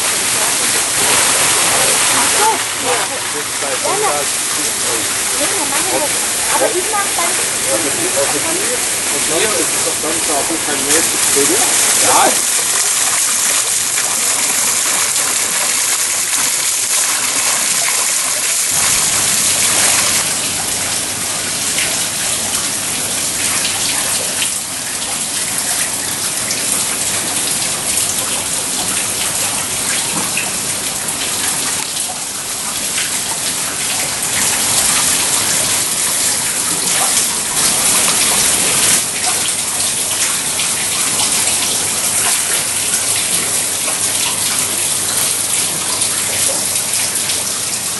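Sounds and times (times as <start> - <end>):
water falling and splashing: 0.0 - 47.9.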